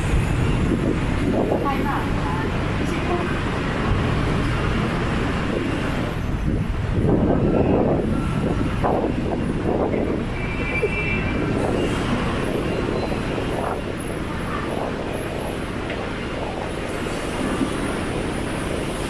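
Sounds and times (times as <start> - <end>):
city road traffic: 0.0 - 19.0.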